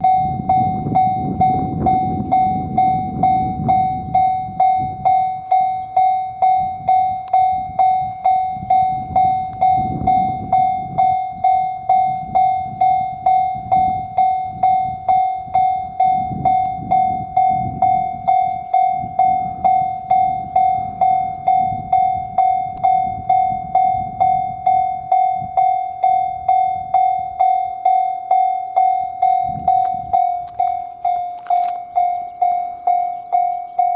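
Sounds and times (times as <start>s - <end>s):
level-crossing warning bell ringing: 0.0s - 33.9s.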